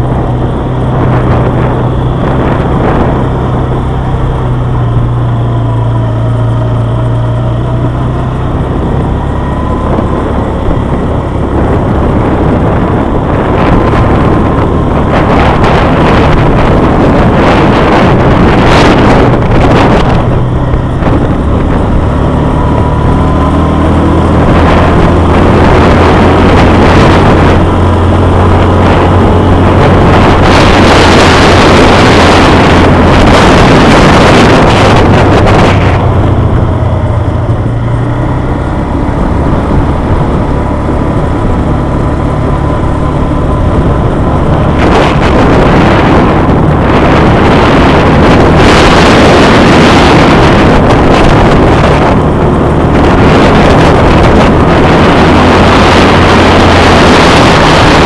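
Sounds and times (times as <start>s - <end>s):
quad bike engine running: 0.0s - 58.0s
wind buffeting microphone: 0.0s - 58.0s.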